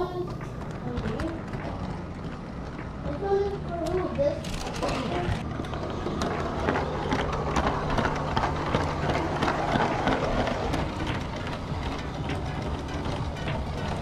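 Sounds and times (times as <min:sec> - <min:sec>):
electric motor hum: 0:00.0 - 0:14.0
toy train wheels clicking: 0:00.0 - 0:14.0.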